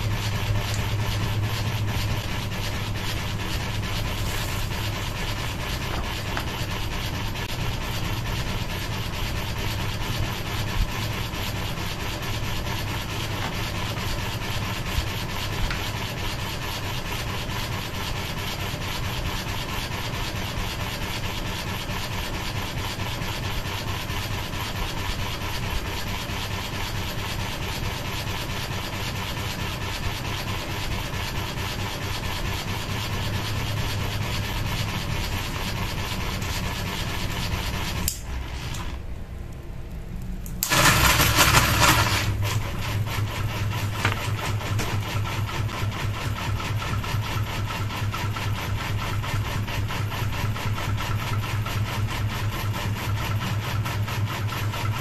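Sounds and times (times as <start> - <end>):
ceiling fan humming: 0.0 - 21.2, 21.8 - 52.6
fan blades rasping on paper: 0.0 - 39.1, 40.6 - 55.0.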